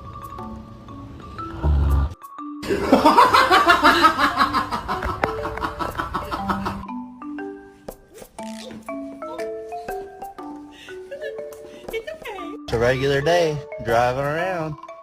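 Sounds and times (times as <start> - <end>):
marimba-like percussion music: 1.4 - 15.0.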